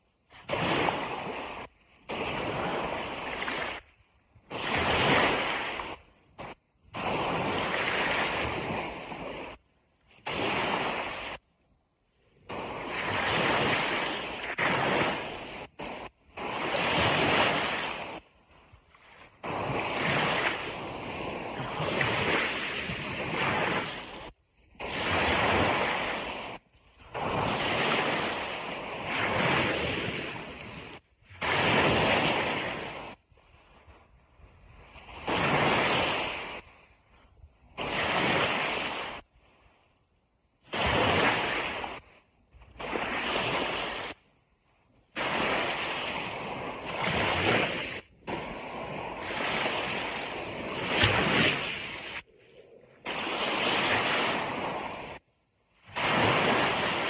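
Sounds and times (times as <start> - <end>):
ocean surf washing on beach: 0.0 - 11.5, 12.1 - 39.8, 40.6 - 57.0.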